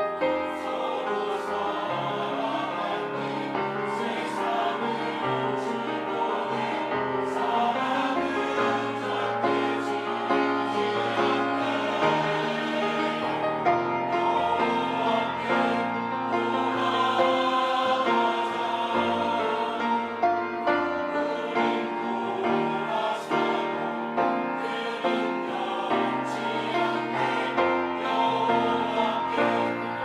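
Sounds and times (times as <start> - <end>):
church choir singing: 0.0 - 30.0.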